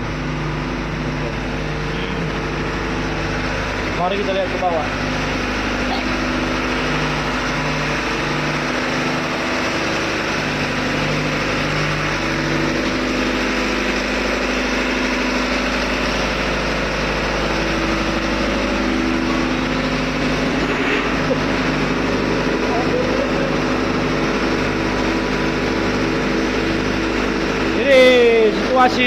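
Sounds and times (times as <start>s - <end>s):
dense machine noise: 0.0s - 29.0s
ship engine throbbing: 0.0s - 29.0s.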